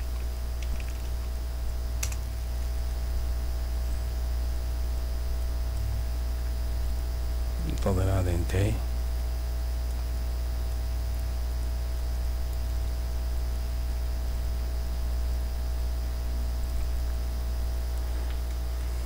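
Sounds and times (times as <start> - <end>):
low electrical hum: 0.0 - 19.0
microphone hiss: 0.0 - 19.0.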